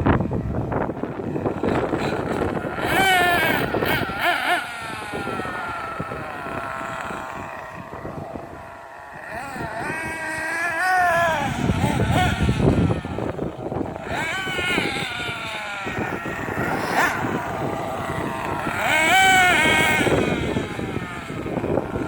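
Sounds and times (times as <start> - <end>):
rc car motor whining: 0.0 - 22.0.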